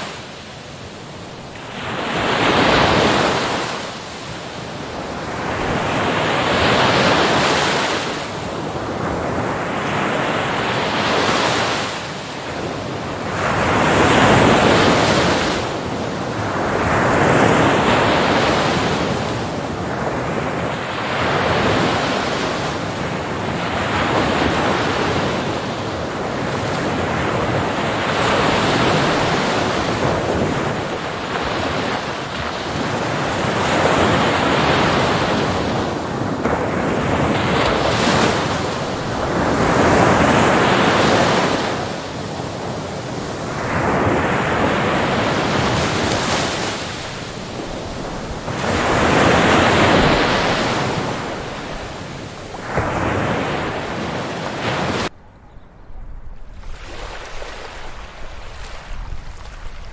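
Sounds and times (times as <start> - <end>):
ocean waves breaking on beach: 0.0 - 55.2, 56.0 - 59.9.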